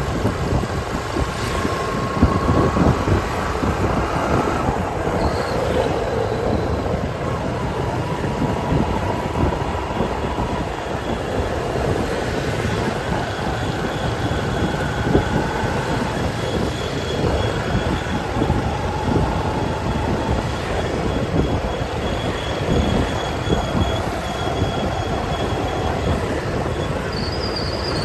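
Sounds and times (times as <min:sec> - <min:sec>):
motorbike and street traffic rumble: 0:00.0 - 0:28.0.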